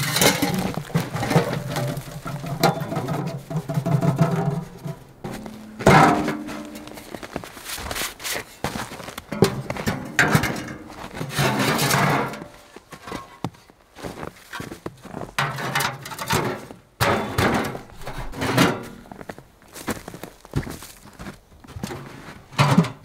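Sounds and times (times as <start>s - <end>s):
metal clanks scrapes and rattles: 0.0s - 13.4s, 14.6s - 19.3s, 21.9s - 23.0s
footsteps in snow: 0.0s - 15.3s, 17.9s - 22.5s.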